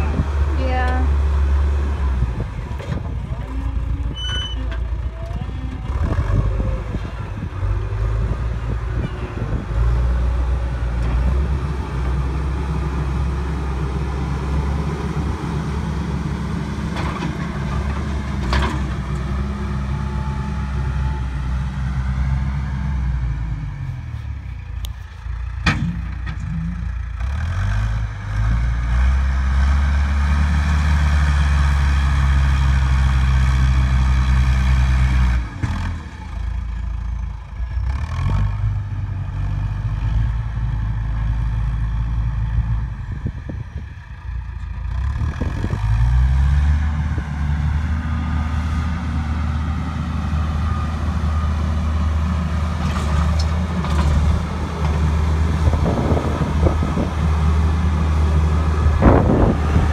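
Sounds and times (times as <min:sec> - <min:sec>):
backhoe diesel engine revving: 0:00.0 - 0:59.9.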